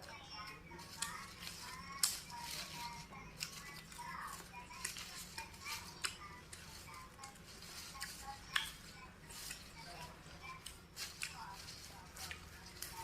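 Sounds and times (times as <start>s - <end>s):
crunchy chewing of vegetables: 0.3s - 13.0s.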